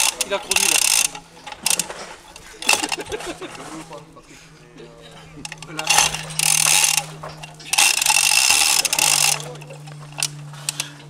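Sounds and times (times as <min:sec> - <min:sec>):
rapid mechanical rattling: 0:00.0 - 0:11.0
steady low hum: 0:00.0 - 0:11.0.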